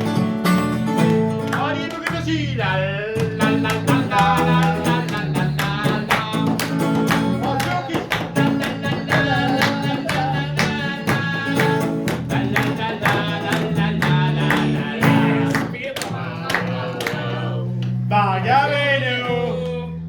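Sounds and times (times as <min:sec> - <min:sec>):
person singing: 0:01.5 - 0:20.0.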